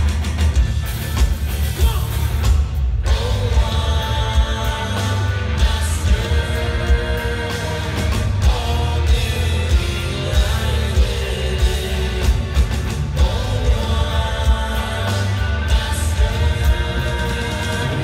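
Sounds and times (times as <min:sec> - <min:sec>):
live rock band playing: 0:00.0 - 0:18.0
steady drum beat: 0:00.0 - 0:18.0
man singing: 0:01.7 - 0:18.0.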